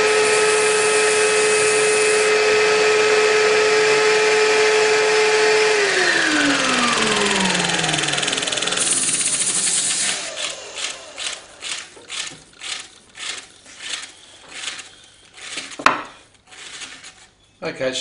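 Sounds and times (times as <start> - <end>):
disc sander coasting down: 0.0 - 17.4.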